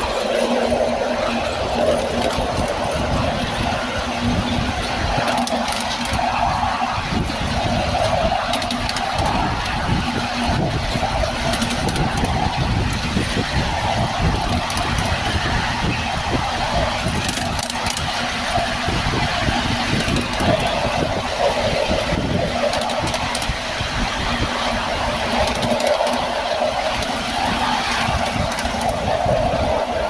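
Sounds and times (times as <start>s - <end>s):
miniature train running on track: 0.0s - 30.0s.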